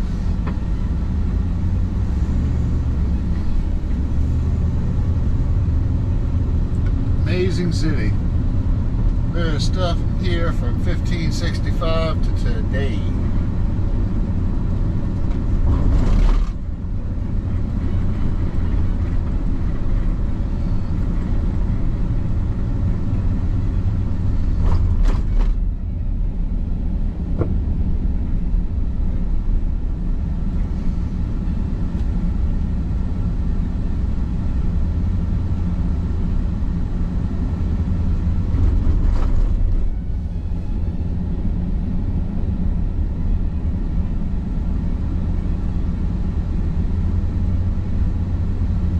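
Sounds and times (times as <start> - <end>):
car engine rumble: 0.0 - 48.9
tyres on road: 0.0 - 48.9.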